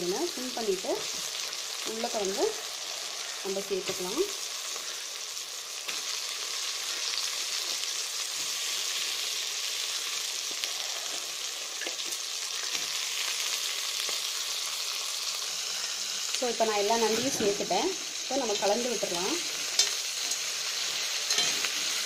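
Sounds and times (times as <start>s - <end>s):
crab frying in hot oil: 0.0s - 22.0s.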